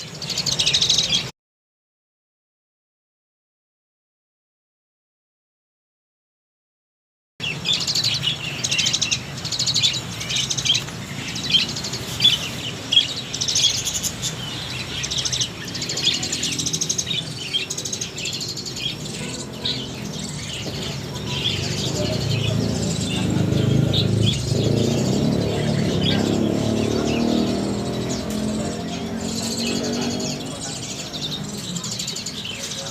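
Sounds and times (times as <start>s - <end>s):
starlings chirping and chattering: 0.0s - 1.3s, 7.4s - 32.9s.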